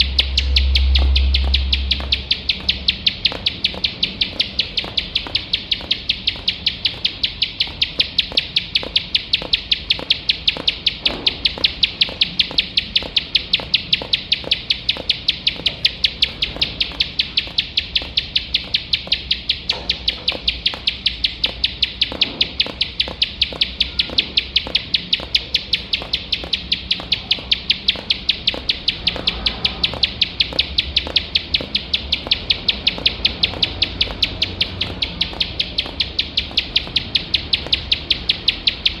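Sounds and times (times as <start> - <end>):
bird calling high sharp notes: 0.0 - 39.0.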